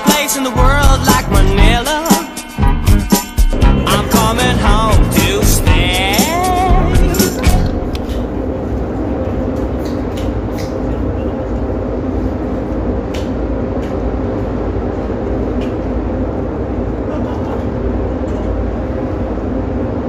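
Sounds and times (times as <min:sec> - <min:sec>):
ship engines droning: 0:00.0 - 0:20.0.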